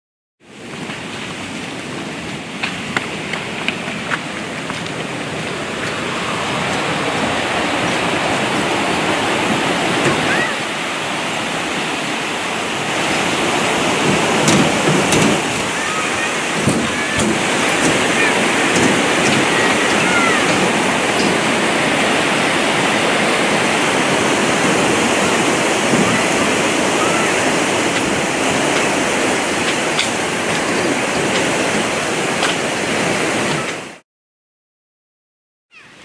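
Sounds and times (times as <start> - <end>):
river water rushing over weir: 0.5 - 34.0.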